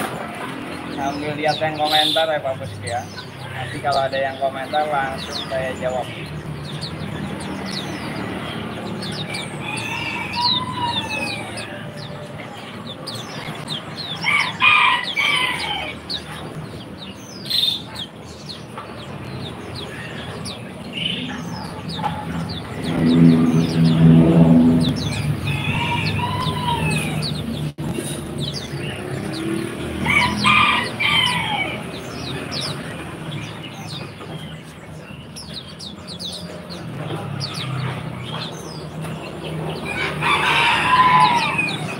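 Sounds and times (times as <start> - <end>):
caged birds chirping: 0.0 - 41.9.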